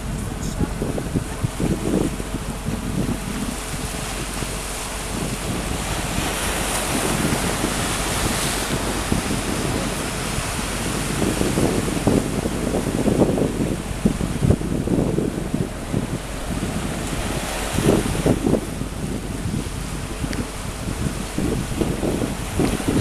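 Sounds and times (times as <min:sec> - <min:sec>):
wind blowing across microphone: 0:00.0 - 0:23.0.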